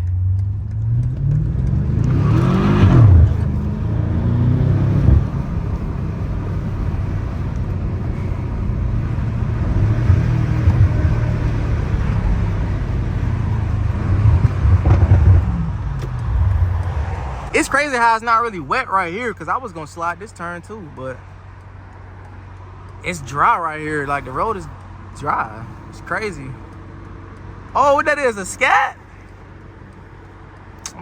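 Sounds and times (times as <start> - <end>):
car engine revving: 0.0 - 31.0
road noise: 0.0 - 31.0.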